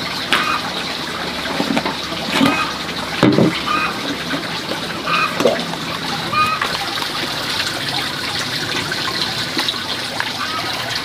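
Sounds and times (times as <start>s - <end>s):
liquid pouring and splashing: 0.0s - 11.0s.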